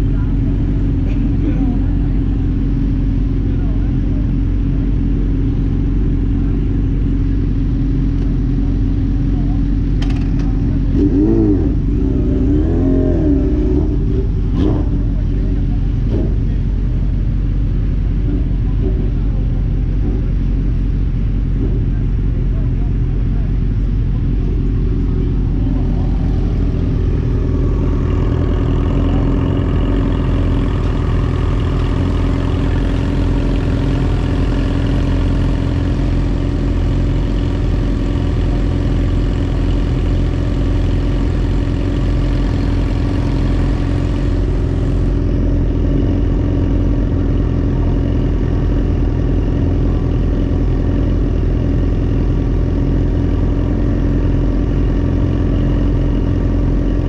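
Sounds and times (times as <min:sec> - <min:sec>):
heavy low rumble: 0:00.0 - 0:57.0
vehicle engine running: 0:00.0 - 0:57.0.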